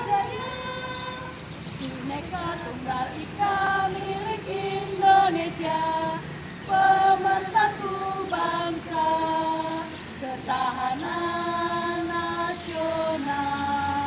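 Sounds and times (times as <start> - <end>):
women's choir singing unaccompanied: 0.0 - 14.0.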